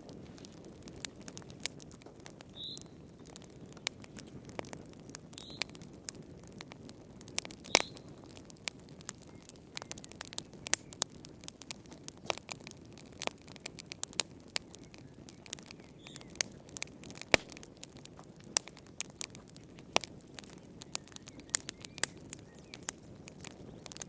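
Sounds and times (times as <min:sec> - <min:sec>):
flames rustling: 0:00.0 - 0:24.0
wood fire crackling and popping: 0:00.0 - 0:24.0.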